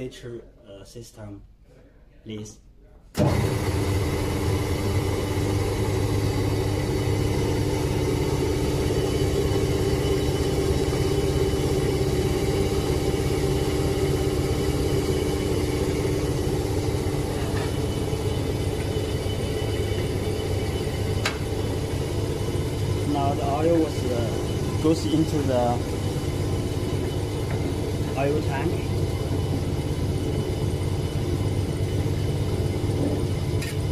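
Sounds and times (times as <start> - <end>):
vacuum pump humming: 3.2 - 33.9.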